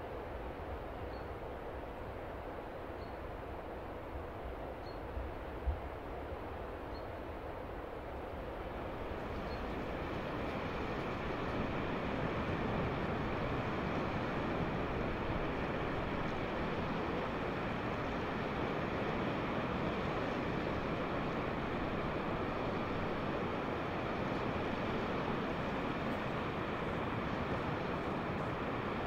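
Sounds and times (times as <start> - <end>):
wind: 0.0 - 29.0.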